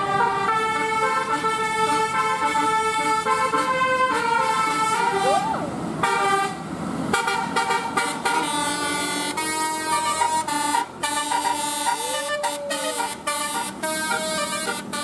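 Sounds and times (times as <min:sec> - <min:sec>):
musical bus air horn tune: 0:00.0 - 0:15.0.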